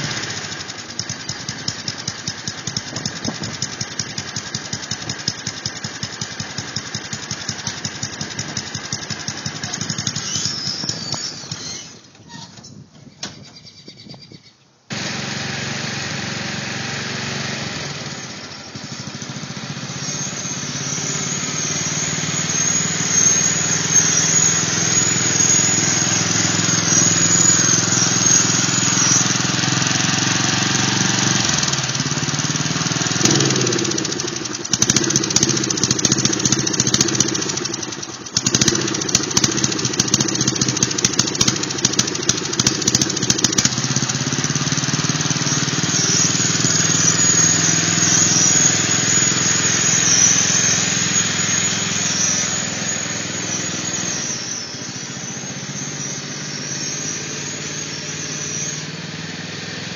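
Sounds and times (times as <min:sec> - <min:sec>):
mower engine running: 0:00.0 - 0:13.8, 0:14.9 - 0:59.9.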